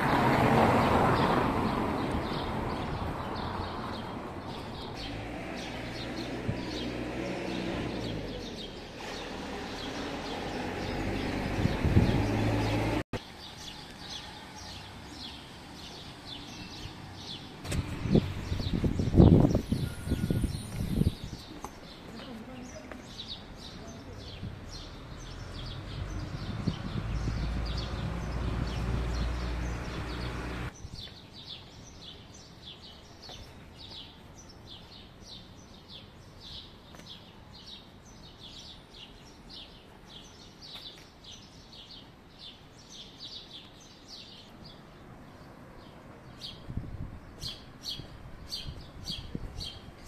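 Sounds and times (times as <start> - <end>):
small birds chirping: 0.7 - 50.0.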